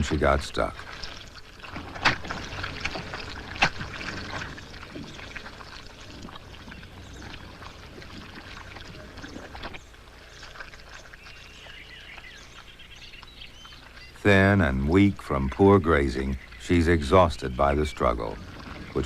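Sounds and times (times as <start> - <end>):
mud and water splashing: 0.0 - 19.0.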